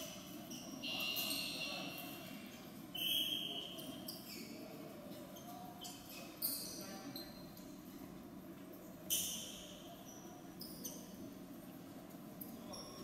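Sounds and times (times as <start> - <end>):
murmur of voices in hall: 0.0 - 13.0.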